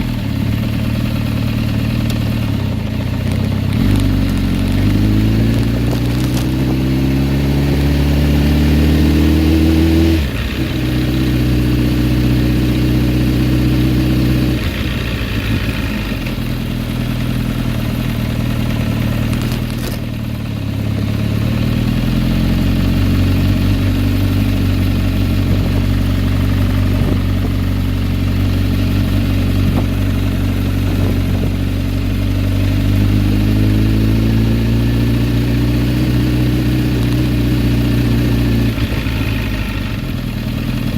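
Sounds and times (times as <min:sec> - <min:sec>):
motorcycle engine revving: 0:00.0 - 0:40.9
ticking rattling engine noise: 0:00.0 - 0:40.9.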